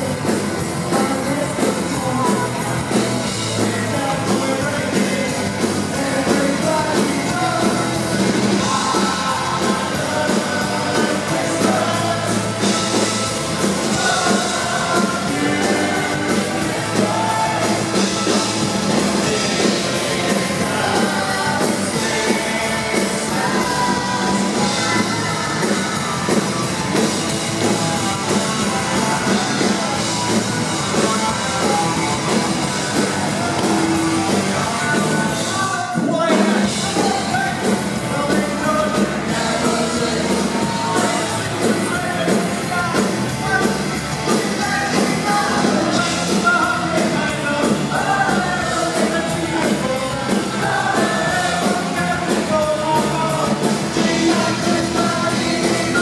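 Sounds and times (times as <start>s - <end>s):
distorted electric guitars: 0.0s - 56.0s
drums: 0.0s - 56.0s
shouted vocals: 3.6s - 56.0s.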